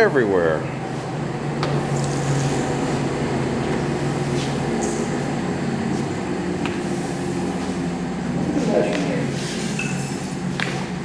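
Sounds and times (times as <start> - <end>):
metal lathe running: 1.4 - 10.6.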